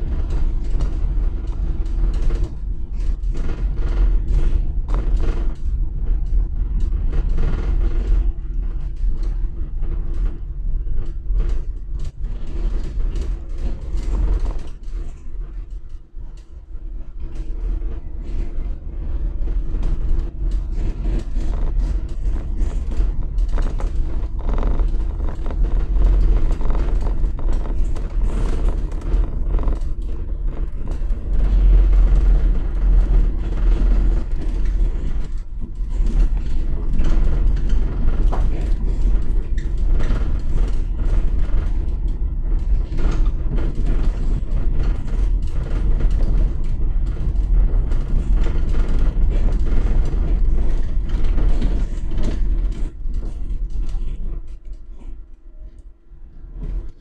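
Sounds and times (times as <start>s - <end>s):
bodywork rattles and creaks: 0.0s - 57.0s
low tyre rumble on cobblestones: 0.0s - 57.0s.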